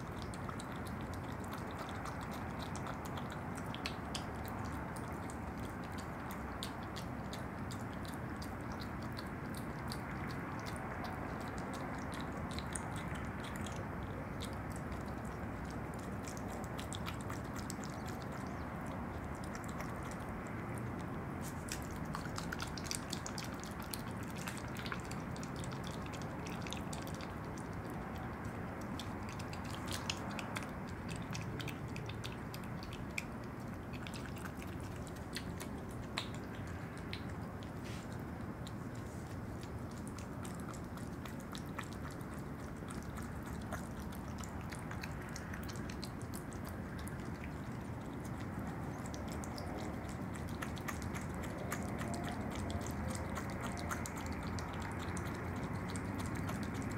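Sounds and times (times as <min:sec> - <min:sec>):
animal chewing and smacking wetly: 0:00.0 - 0:56.9.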